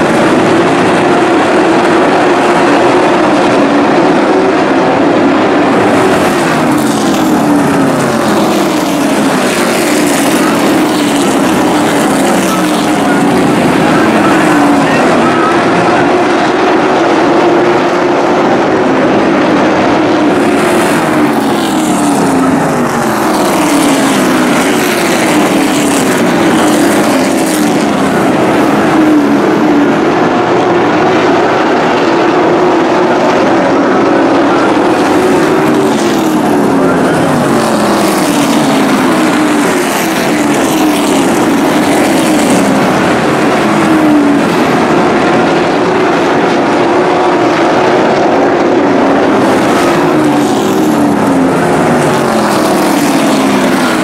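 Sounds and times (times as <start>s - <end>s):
race truck engines at full throttle: 0.0s - 54.0s.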